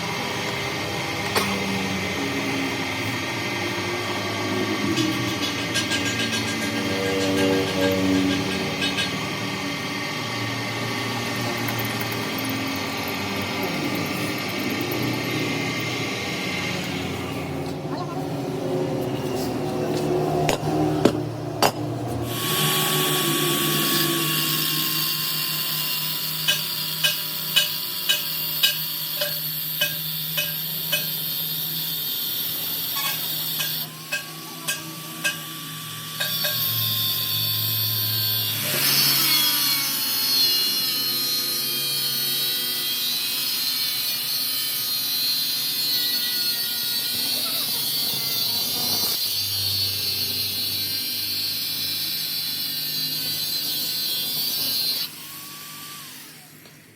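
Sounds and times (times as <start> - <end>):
power tool whining on metal: 0.0 - 56.9.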